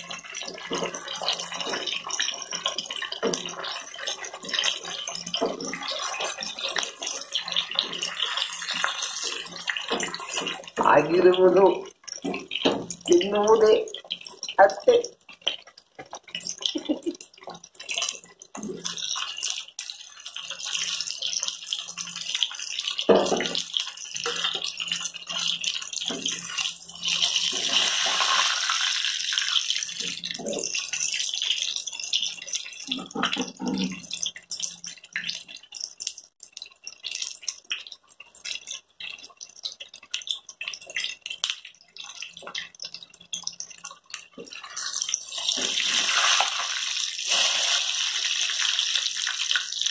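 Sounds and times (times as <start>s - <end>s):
oil sizzling and popping: 0.0s - 49.9s.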